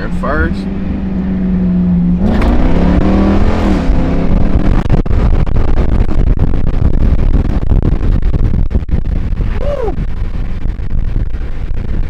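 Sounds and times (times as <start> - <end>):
car engine revving at full throttle: 0.0 - 12.0
rough exhaust rumble with crackles: 0.0 - 12.0.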